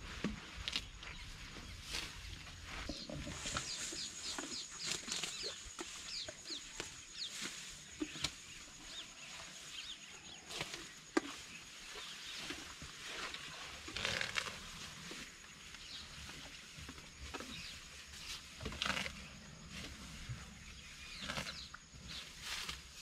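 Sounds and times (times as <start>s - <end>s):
birds chirping: 0.7s - 13.0s, 14.0s - 22.4s.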